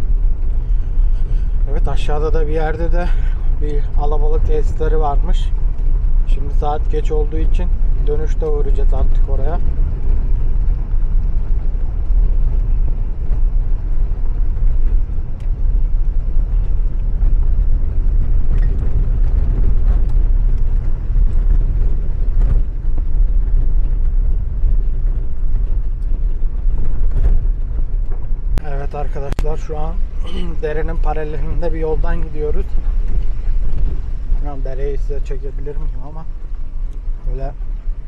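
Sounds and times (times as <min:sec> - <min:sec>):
engine and tyre rumble: 0:00.0 - 0:38.0.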